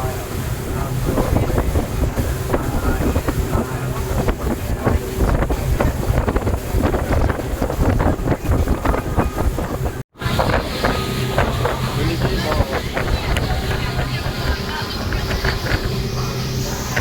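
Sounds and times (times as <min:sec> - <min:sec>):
motorboat engine rumbling: 0:00.0 - 0:17.0
wind buffeting microphone: 0:00.0 - 0:17.0.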